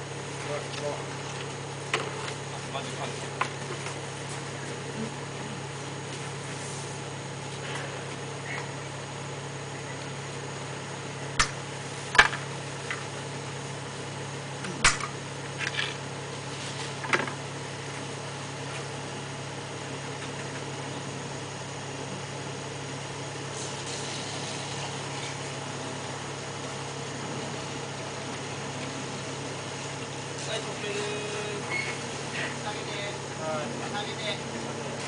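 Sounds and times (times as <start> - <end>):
machinery humming: 0.0 - 35.0.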